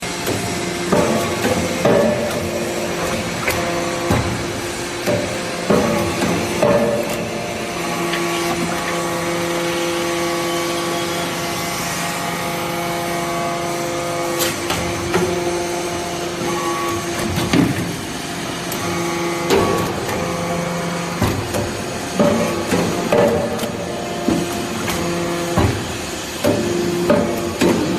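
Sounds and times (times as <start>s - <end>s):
hydraulic pump hum: 0.0s - 27.9s.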